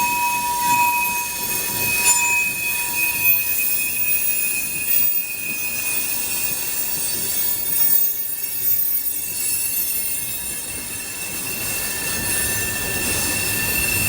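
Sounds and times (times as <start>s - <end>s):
rumble of freight cars: 0.0s - 14.0s
train wheels squealing on rails: 0.0s - 14.0s.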